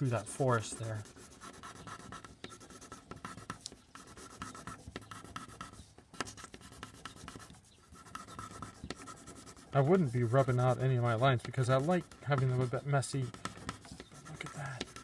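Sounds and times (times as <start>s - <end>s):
pencil scratching on paper: 0.0s - 15.0s.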